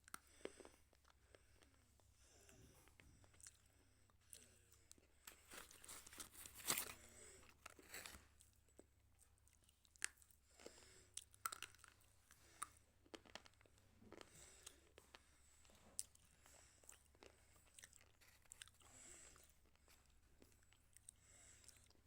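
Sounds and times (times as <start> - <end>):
person chewing brittle pencil: 0.0 - 22.0.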